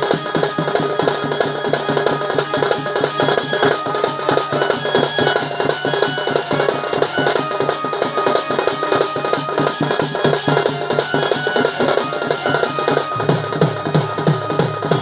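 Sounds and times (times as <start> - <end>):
fast dense drumming: 0.0 - 15.0
held melodic tones: 0.7 - 15.0.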